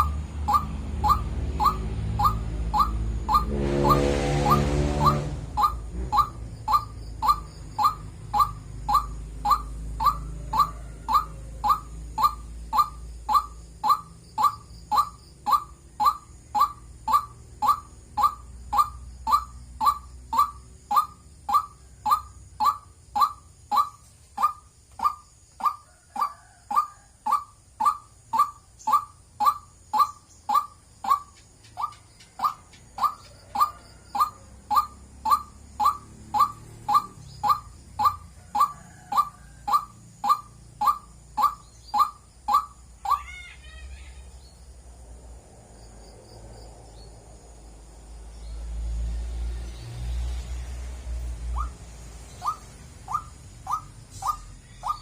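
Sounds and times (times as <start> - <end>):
waterhen calling: 0.0 - 44.3, 51.5 - 55.0.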